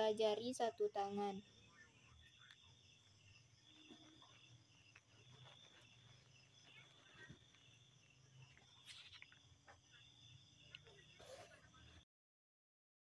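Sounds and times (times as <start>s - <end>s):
faint insect chirring: 0.0s - 12.0s.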